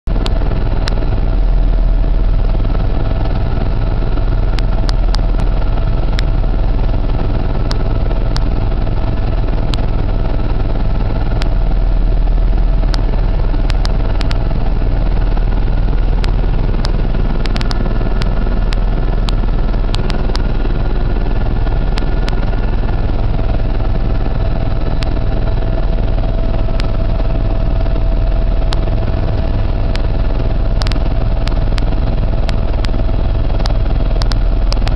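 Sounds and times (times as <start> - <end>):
aircraft engine drone in cabin: 0.1 - 34.9.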